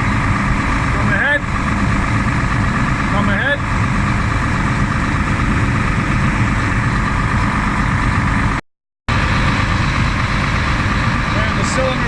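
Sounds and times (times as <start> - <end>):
diesel engine rumbling: 0.0 - 12.0
whine of machine drives: 0.0 - 12.0.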